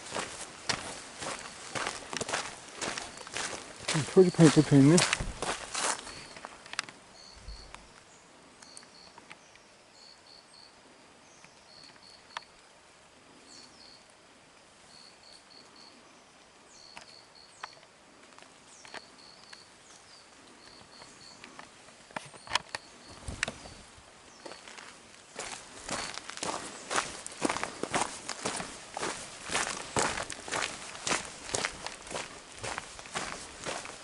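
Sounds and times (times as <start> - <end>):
steady background hiss: 0.0 - 34.0
insect chirping: 0.1 - 8.0, 8.6 - 9.2, 9.9 - 10.8, 11.7 - 12.6, 13.4 - 14.1, 14.8 - 18.0, 18.8 - 21.7, 22.3 - 34.0.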